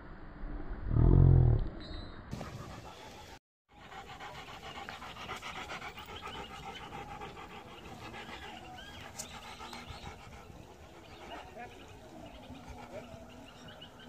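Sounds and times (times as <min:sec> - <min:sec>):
dog panting: 0:02.3 - 0:14.0.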